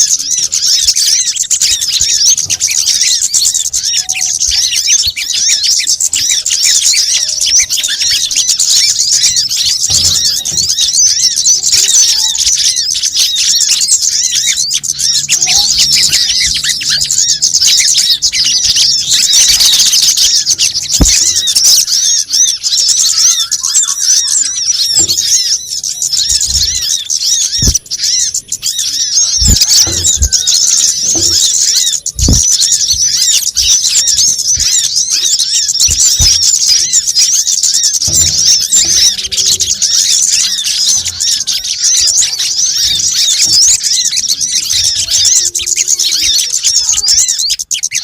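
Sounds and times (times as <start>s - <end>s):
songbirds twittering and chirping: 0.0s - 48.0s.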